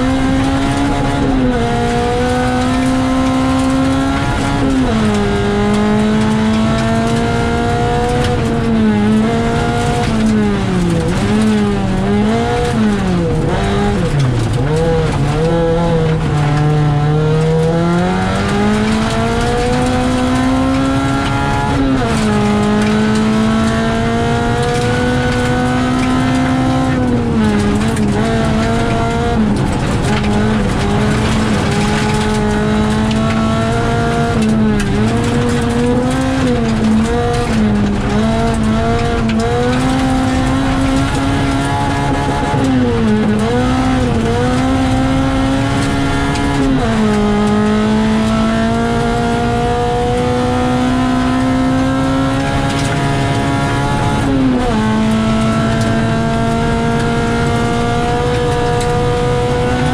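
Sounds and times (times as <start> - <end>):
tyre and gravel noise: 0.0 - 50.2
rally car engine revving: 0.0 - 59.9.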